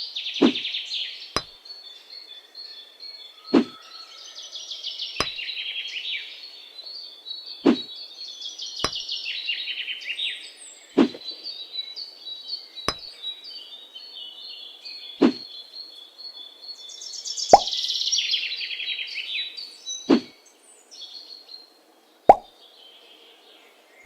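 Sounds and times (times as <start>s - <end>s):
birds singing trilled phrases: 0.0s - 4.0s, 4.7s - 24.0s.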